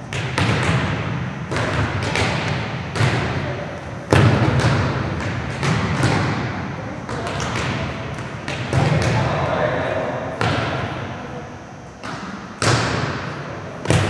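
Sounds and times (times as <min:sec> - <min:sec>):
volleyballs struck with echoing thuds: 0:00.0 - 0:14.0.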